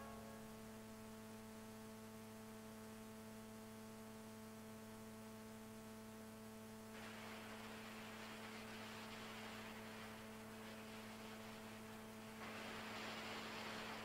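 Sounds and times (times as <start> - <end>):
faint tape hiss: 0.0 - 14.0
mains hum: 0.0 - 14.0.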